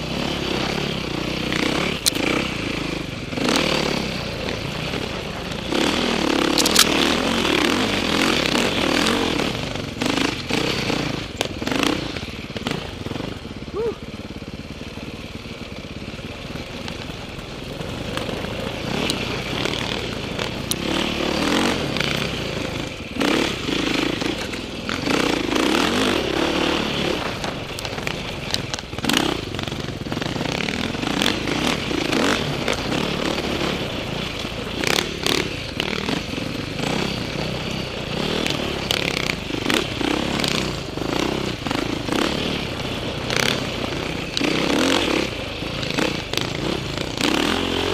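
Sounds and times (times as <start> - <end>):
bike knocking and rattling over bumps: 0.0 - 47.9
dirt bike engine revving: 0.0 - 47.9.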